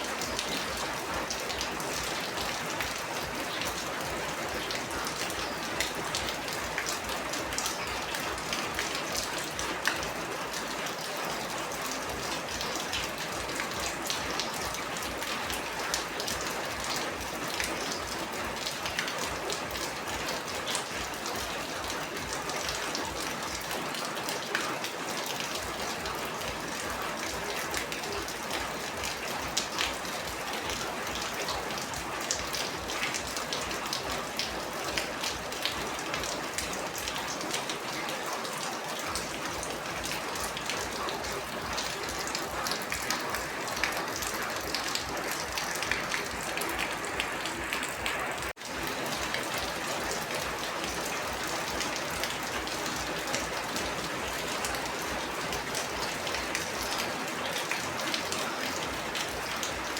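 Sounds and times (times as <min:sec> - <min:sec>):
raindrops ticking on a surface: 0:00.0 - 0:59.9
steady rain falling: 0:00.0 - 0:59.9.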